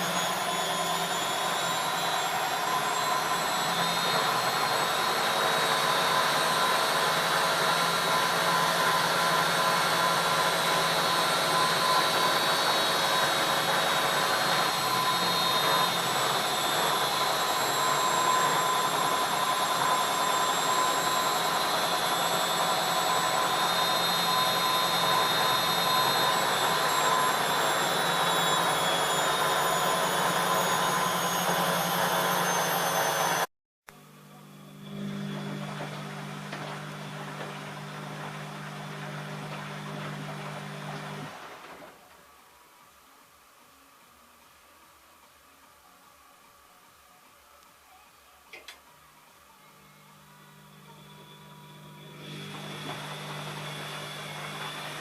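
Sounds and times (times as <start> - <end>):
washing machine motor whine: 0.0 - 42.4, 48.6 - 55.0.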